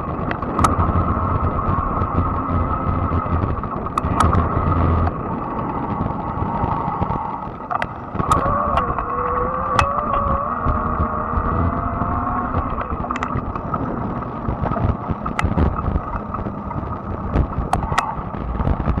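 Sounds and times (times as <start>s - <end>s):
bike clicks and ticks: 0.0s - 19.0s
electric drive whine: 0.0s - 19.0s
lower whine: 0.0s - 19.0s
tyres and wind rumble: 0.0s - 19.0s.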